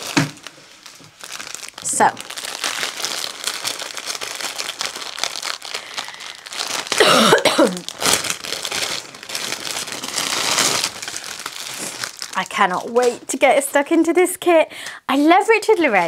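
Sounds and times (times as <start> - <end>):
plastic packets rattling and crinkling: 0.0 - 14.0.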